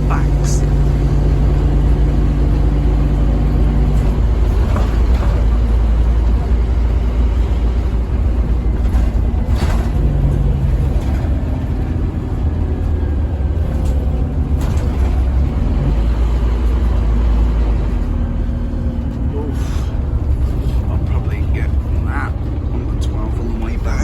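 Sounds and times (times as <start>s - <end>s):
bus diesel engine drone: 0.0s - 24.0s.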